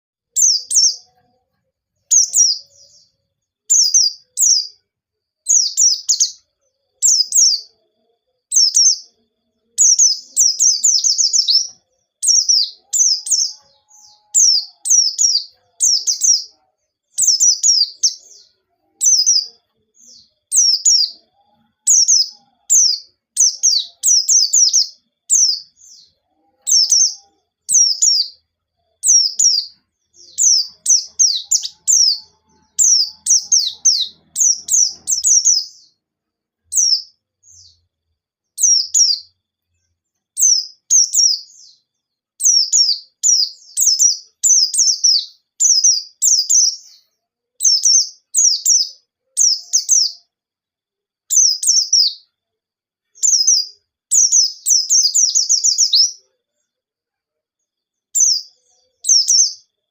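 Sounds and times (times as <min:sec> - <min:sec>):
small bird singing: 0:00.0 - 0:59.9.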